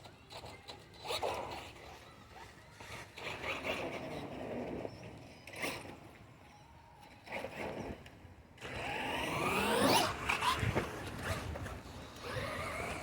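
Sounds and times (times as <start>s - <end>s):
toy truck motor and tyres whirring: 0.0s - 13.0s.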